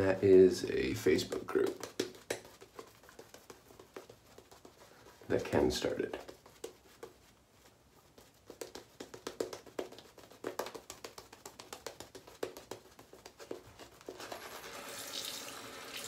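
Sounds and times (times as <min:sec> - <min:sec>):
shaving brush wet swishes: 0:00.0 - 0:14.9.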